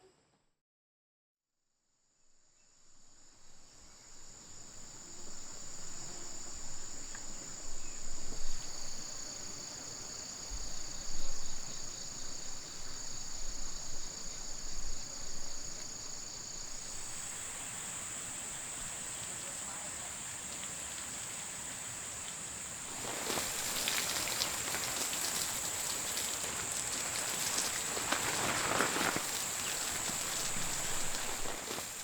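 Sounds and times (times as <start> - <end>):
high-pitched insect chorus: 2.5 - 32.0.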